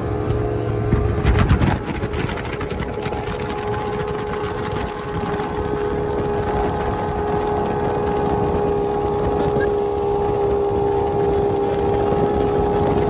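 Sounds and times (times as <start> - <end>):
speedboat engine droning: 0.0 - 13.0
water rushing along hull: 0.0 - 13.0.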